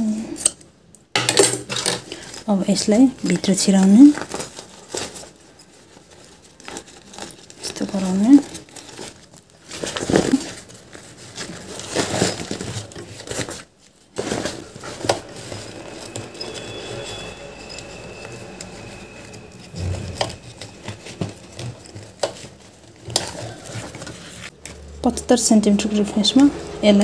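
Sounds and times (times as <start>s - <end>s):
fabric rustling and crinkling: 2.8s - 24.8s.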